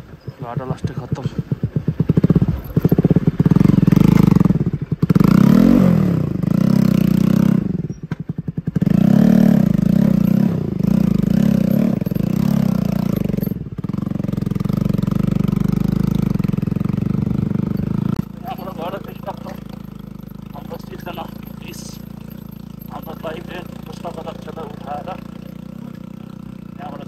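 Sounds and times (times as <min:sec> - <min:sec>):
loud motorcycle engine revving: 0:00.6 - 0:27.0.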